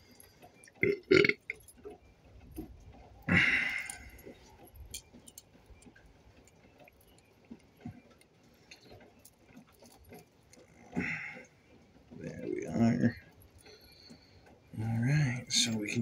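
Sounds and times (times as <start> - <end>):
small clicks and rattles: 0.0 - 16.0.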